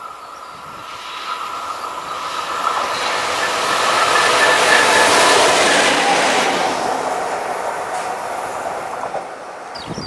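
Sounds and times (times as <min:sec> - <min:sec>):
electric locomotive rolling: 0:00.0 - 0:09.8.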